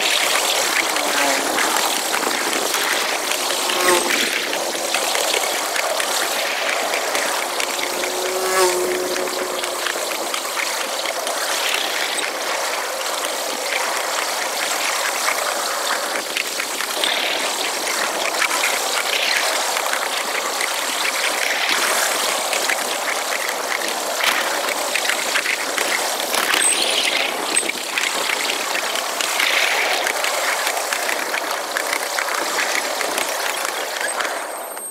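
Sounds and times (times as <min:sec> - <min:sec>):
high-pitched trolley clatter: 0:00.0 - 0:34.9.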